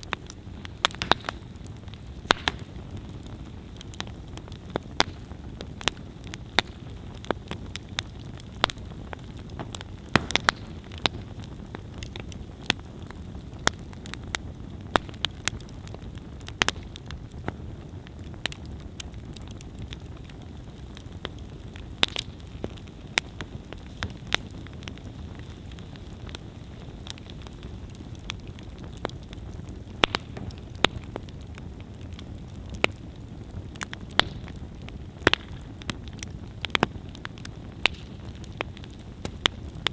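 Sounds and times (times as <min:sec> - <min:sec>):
burning wood crackling and popping: 0:00.0 - 0:39.9
campfire low rumble: 0:00.0 - 0:39.9.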